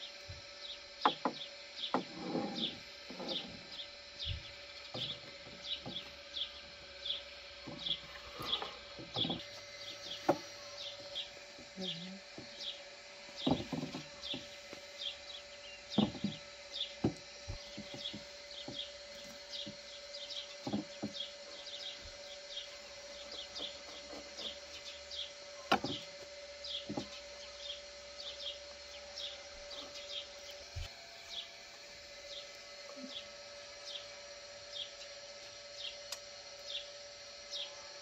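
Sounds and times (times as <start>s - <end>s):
small birds chirping: 0.0s - 31.5s.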